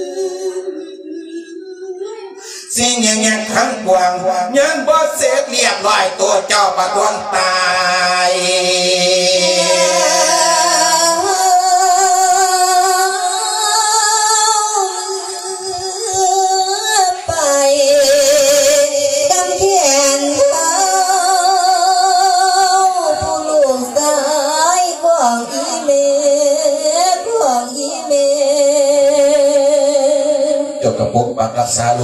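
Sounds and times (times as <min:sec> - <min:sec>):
man chanting over loudspeakers: 0:02.1 - 0:32.0.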